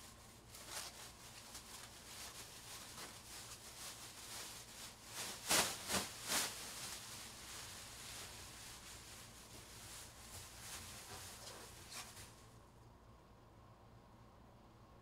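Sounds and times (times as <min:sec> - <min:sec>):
faint rustling: 0:00.0 - 0:12.6.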